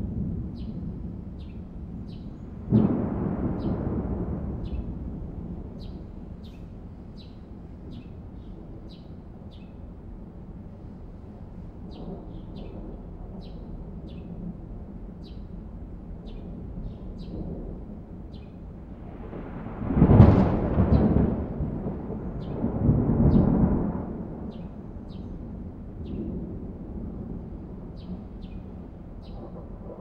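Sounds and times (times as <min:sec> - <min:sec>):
low outdoor background rumble: 0:00.0 - 0:30.0.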